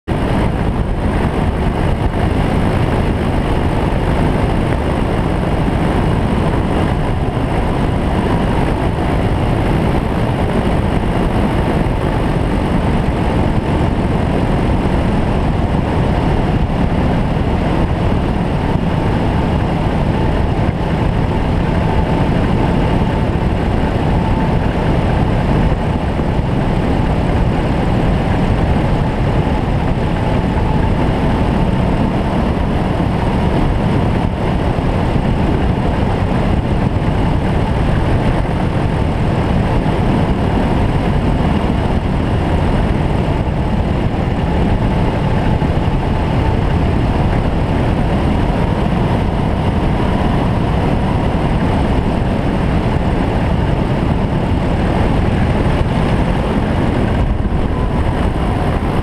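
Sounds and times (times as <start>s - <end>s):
aircraft engine and propeller: 0.0s - 59.0s
wind rushing over microphone: 0.0s - 59.0s.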